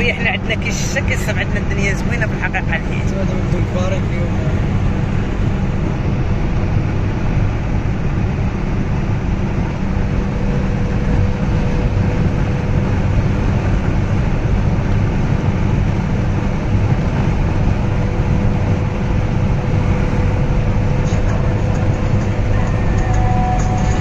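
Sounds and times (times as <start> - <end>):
vehicle rumble from inside: 0.0 - 24.0.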